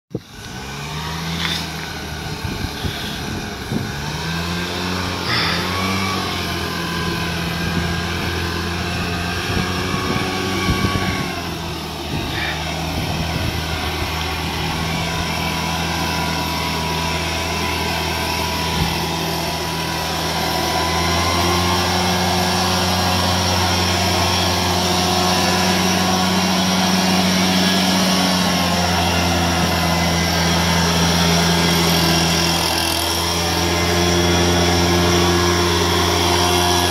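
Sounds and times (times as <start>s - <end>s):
leaf blower engine running: 0.1s - 36.9s.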